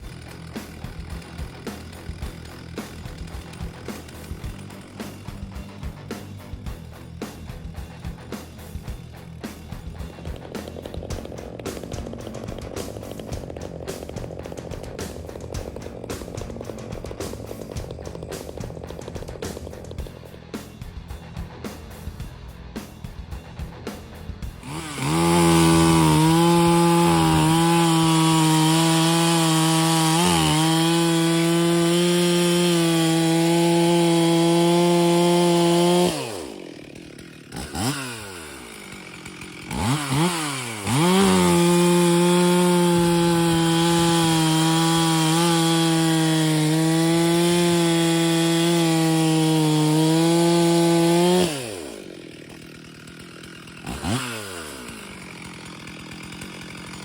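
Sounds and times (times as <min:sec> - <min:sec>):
chainsaw cutting wood: 0:00.0 - 0:57.0
chainsaw idling and revving: 0:00.0 - 0:57.0.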